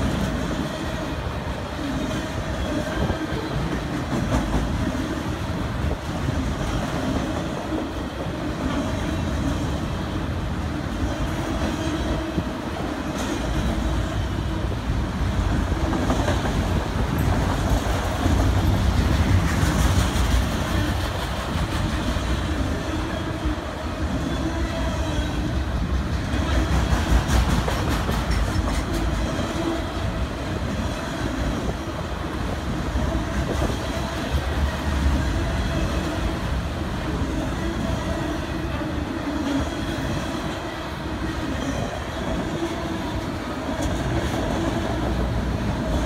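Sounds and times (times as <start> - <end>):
clickety-clack over rail joints: 0.0 - 46.0
train wheels rumbling on rails: 0.0 - 46.0.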